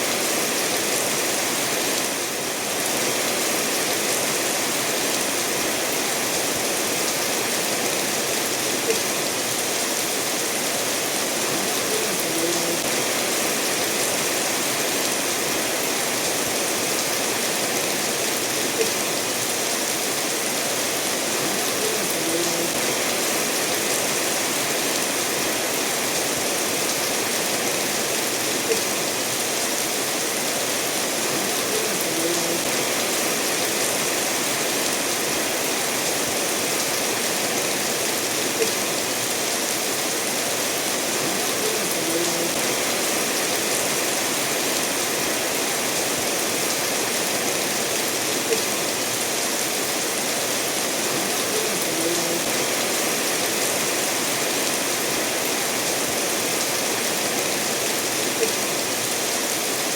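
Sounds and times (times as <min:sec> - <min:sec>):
steady rain: 0:00.0 - 0:59.9
stream running over stones: 0:00.0 - 0:59.9.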